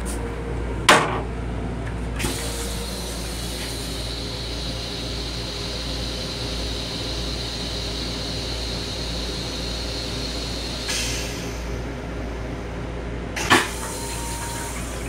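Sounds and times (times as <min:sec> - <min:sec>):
railcar low rumble: 0:00.0 - 0:15.0.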